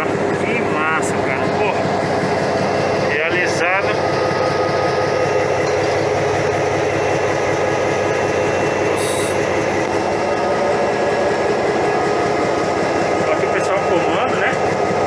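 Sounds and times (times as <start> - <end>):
diesel locomotive running: 0.0 - 15.0.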